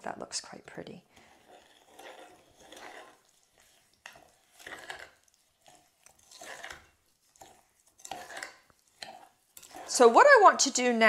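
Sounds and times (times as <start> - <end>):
spoon scraping in a glass jug: 1.2 - 10.9.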